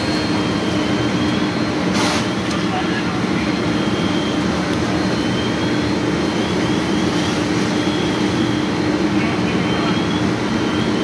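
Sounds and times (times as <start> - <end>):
fire engine pump droning: 0.0 - 11.0.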